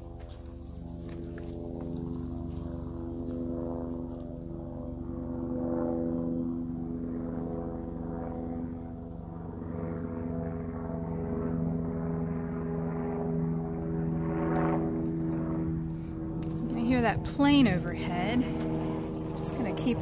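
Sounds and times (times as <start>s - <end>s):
airplane engine drone: 0.0s - 20.0s.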